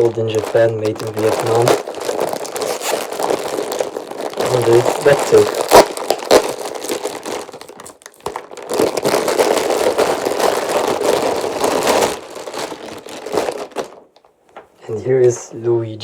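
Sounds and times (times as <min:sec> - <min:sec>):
packaging crinkling and rustling: 0:00.0 - 0:15.5.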